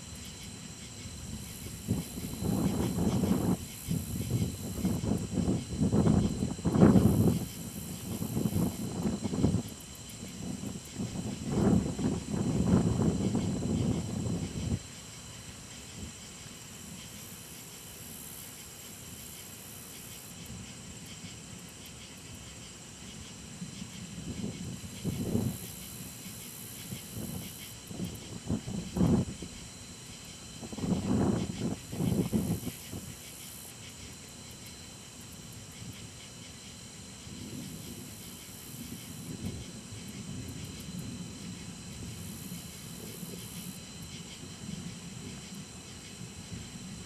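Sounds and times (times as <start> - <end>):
constant storm hiss: 0.0 - 47.0.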